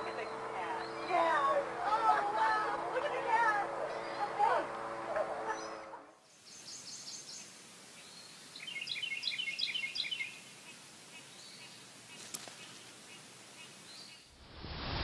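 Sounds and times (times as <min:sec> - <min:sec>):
birds chirping: 0:00.0 - 0:14.4
outdoor ambient hiss: 0:00.0 - 0:15.0.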